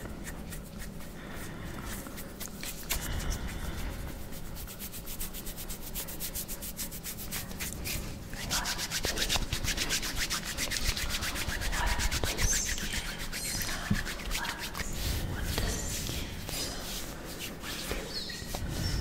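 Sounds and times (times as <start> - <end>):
hands rubbing over skin: 0.0 - 19.0.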